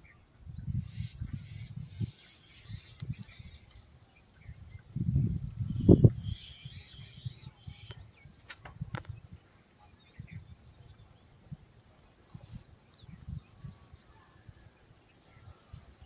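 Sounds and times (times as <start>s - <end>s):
outdoor rural background noise: 0.0s - 16.0s
small birds chirping: 0.0s - 16.0s.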